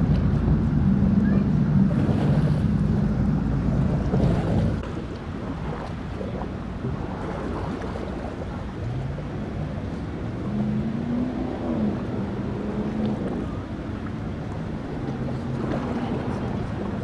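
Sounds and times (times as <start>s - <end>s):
speedboat engines: 0.0s - 17.0s
wind noise on microphone: 0.0s - 17.0s.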